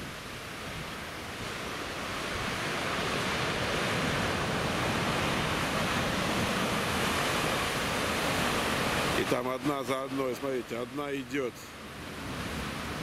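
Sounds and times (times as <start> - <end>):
large wave breaking: 0.0 - 13.0.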